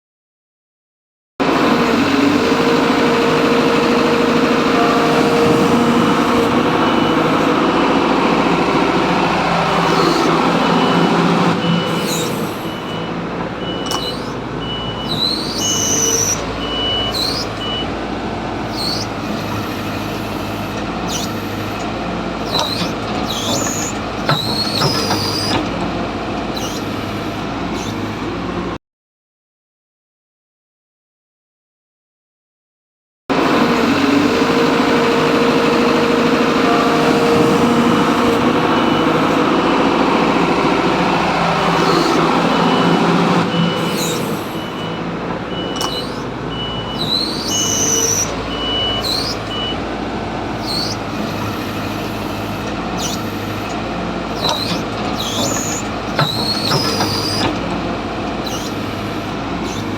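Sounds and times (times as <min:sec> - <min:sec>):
excavator engine running: 0:01.4 - 0:28.8, 0:33.3 - 0:59.9.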